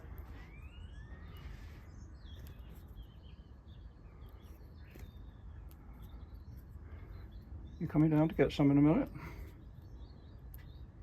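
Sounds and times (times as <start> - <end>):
low background rumble: 0.0 - 11.0
robin chirping: 0.0 - 11.0.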